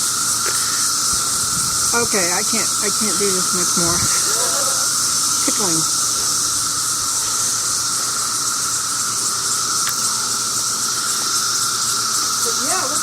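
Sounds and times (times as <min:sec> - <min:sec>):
cicadas droning: 0:00.0 - 0:13.0
high hiss of cicadas: 0:00.0 - 0:13.0.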